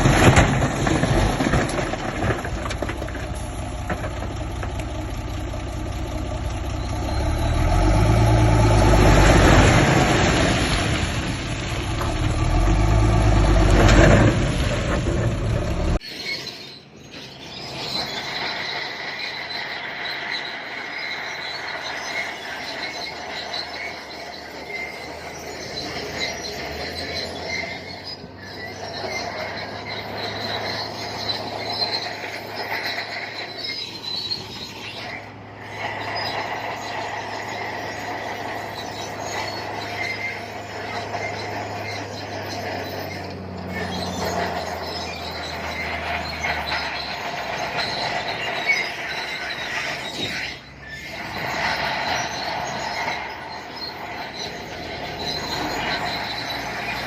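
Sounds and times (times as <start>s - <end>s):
diesel engine low hum: 0.0s - 16.0s, 19.6s - 57.0s
steel tracks squealing: 0.0s - 57.0s.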